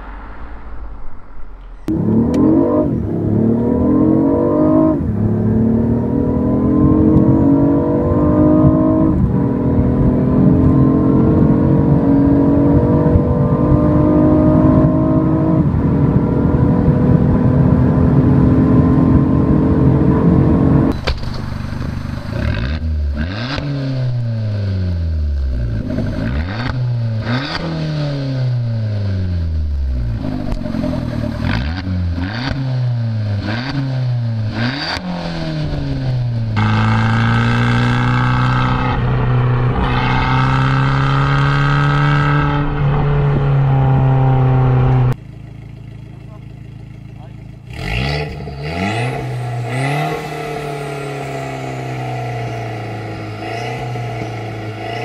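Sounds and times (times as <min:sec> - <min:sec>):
car engine accelerating: 0:00.0 - 0:55.0
car engine revving in blips: 0:01.5 - 0:55.0.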